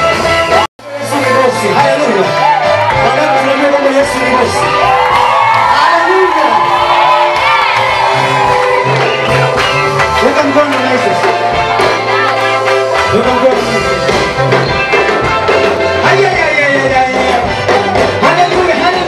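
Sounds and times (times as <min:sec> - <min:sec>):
bass line: 0:00.0 - 0:19.0.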